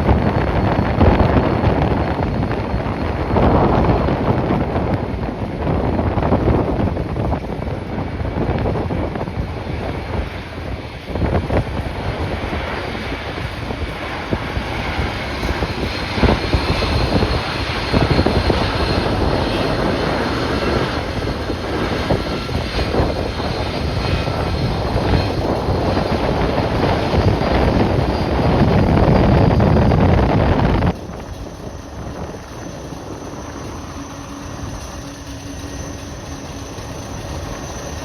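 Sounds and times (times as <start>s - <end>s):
jet engines whining: 0.0s - 38.0s
wind buffeting microphone: 0.0s - 38.0s.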